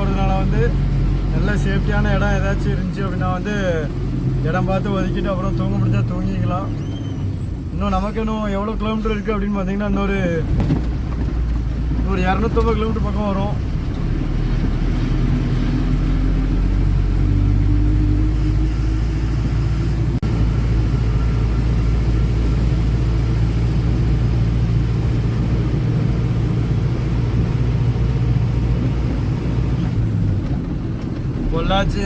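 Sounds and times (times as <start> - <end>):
truck diesel engine drone: 0.0 - 10.4, 11.6 - 32.0.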